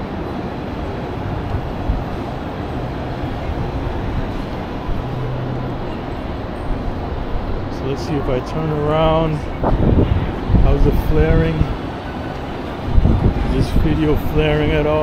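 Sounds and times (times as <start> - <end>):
low rumble of street noise: 0.0 - 15.0.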